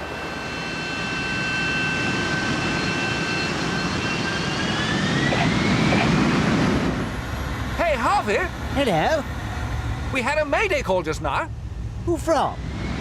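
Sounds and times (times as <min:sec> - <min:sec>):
jet engine rumble and whine: 0:00.0 - 0:13.0.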